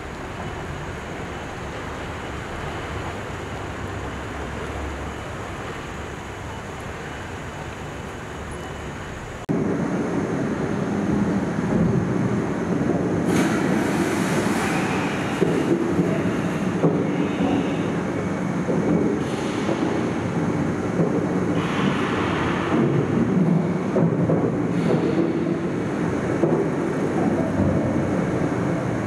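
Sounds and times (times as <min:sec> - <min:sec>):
outdoor ambient noise: 0:00.0 - 0:29.0.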